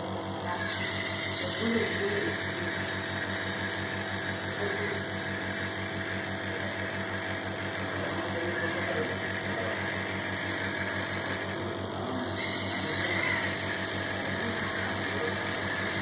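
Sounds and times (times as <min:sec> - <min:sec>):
small compressor buzzing hum: 0:00.0 - 0:16.0.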